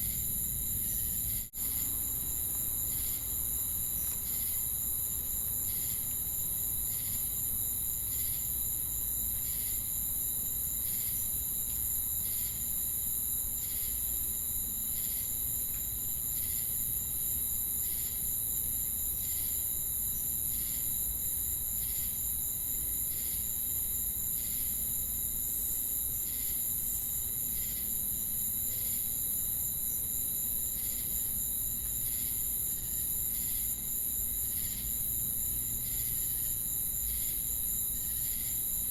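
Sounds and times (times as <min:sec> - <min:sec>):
crickets and cicadas trilling: 0:00.0 - 0:38.9
insect chirping in rhythm: 0:00.0 - 0:38.9.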